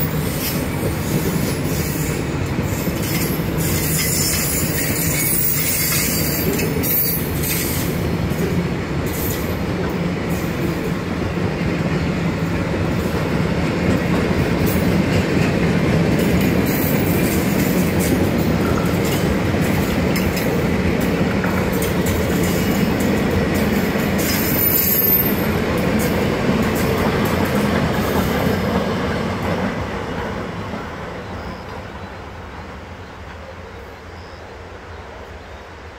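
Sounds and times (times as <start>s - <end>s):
freight train wheels rumbling: 0.0s - 35.9s.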